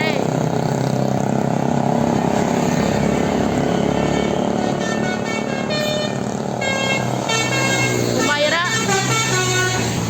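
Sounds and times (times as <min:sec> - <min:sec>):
vehicle engines: 0:00.0 - 0:10.0.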